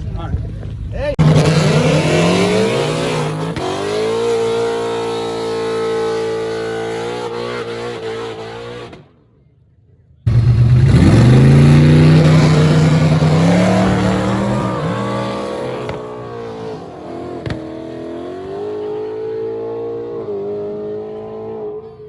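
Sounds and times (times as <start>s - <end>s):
car engine accelerating hard: 1.2s - 9.0s, 10.3s - 22.0s.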